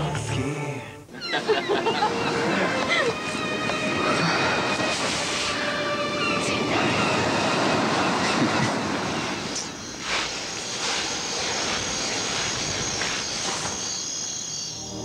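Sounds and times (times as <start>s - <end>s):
rushing rumble: 1.6s - 14.4s.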